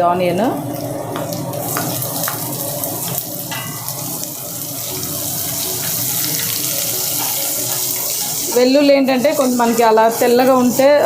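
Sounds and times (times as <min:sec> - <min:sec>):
onion sizzling in hot oil: 0:00.2 - 0:11.0.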